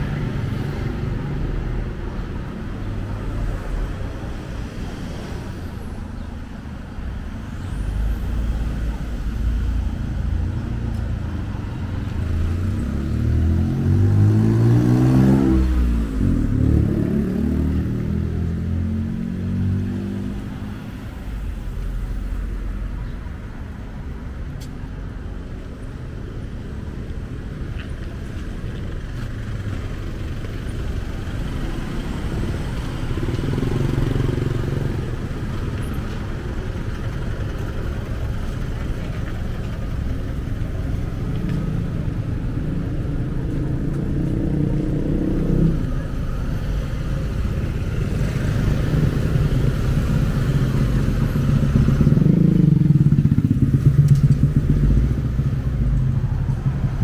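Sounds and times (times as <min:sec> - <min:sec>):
passing cars and motorbikes: 0:00.0 - 0:57.0.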